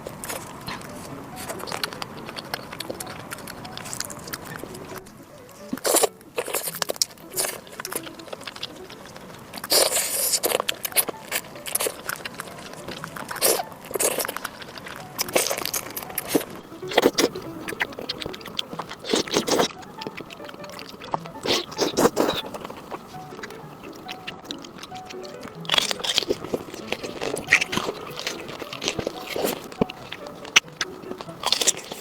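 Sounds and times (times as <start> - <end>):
wet chewing and mouth smacks: 0.0 - 32.0.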